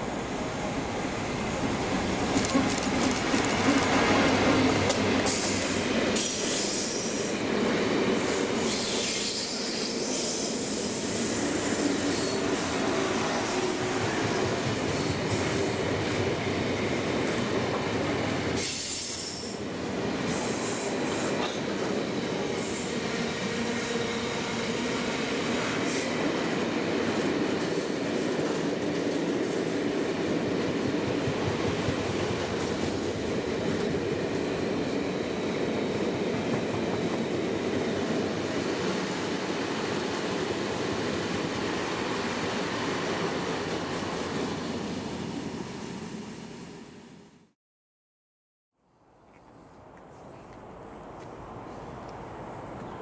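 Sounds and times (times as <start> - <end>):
train wheels on rails: 0.0 - 47.4.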